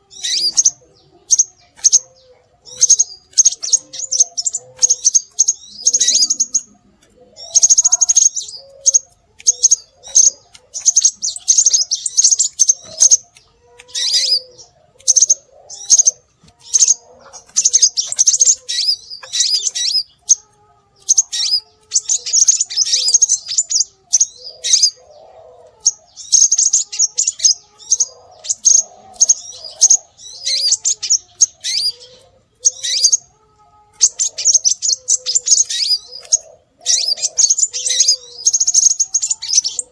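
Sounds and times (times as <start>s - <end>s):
bird high chirping phrases: 0.0s - 39.9s.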